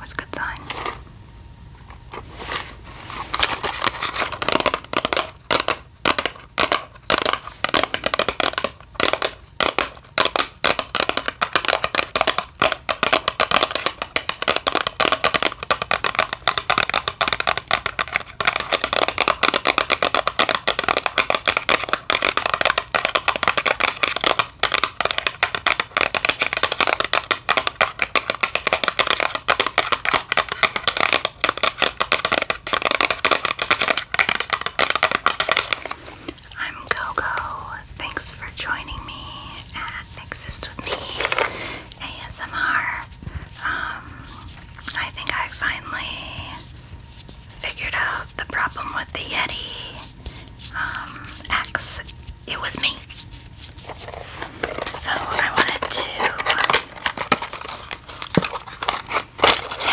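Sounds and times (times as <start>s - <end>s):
object crackling and clicking: 3.3s - 59.9s.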